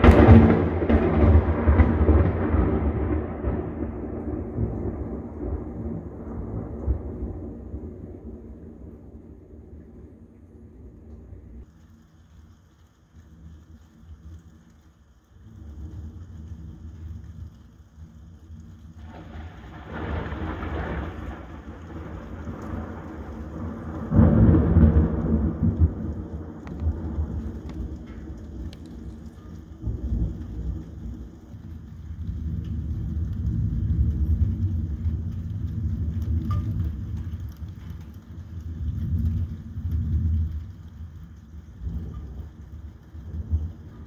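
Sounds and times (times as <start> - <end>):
rolling thunder: 0.0 - 11.7, 15.4 - 44.0
steady rain: 0.0 - 44.0.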